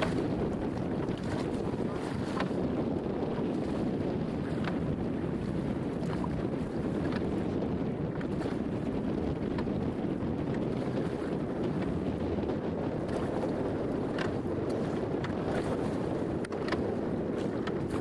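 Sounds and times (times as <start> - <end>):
water sounds: 0.0 - 18.0
wind buffeting microphone: 0.0 - 18.0.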